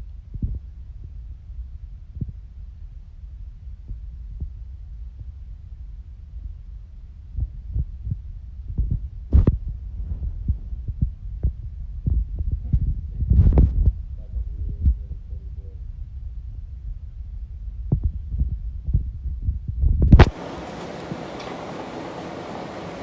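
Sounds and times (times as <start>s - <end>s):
low knocks and thumps: 0.0s - 20.4s
low rumble: 0.0s - 20.4s.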